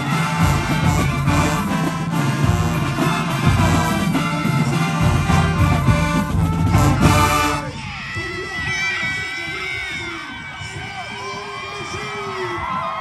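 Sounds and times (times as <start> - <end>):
marching band playing loudly: 0.0 - 12.0.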